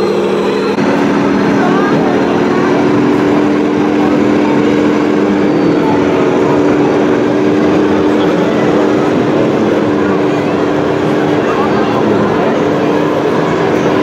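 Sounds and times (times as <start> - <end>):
model truck motor drone: 0.0 - 14.0.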